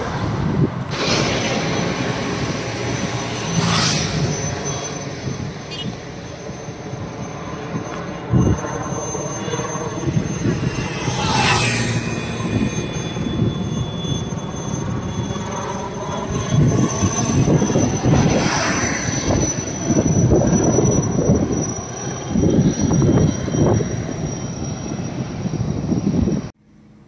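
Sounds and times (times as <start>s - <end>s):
helicopter flying overhead: 0.0s - 27.0s.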